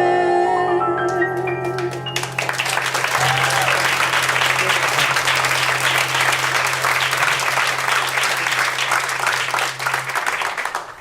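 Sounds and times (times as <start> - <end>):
audience applause: 1.4 - 11.0.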